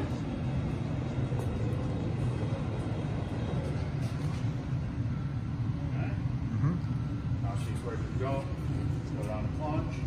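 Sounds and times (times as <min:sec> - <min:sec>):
machinery humming and rumbling: 0:00.0 - 0:10.0.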